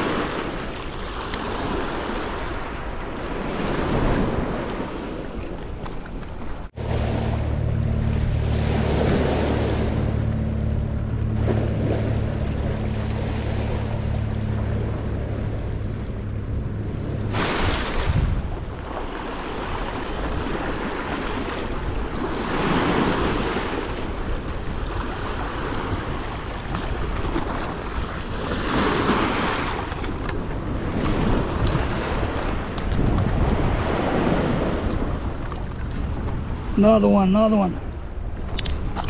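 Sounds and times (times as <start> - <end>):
wind on microphone: 0.0 - 36.8.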